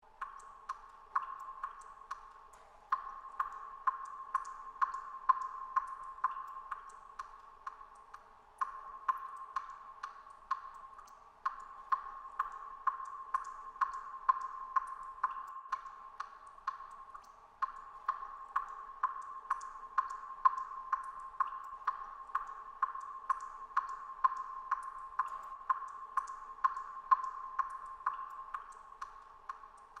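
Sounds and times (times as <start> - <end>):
water dripping in cave: 0.0 - 30.0.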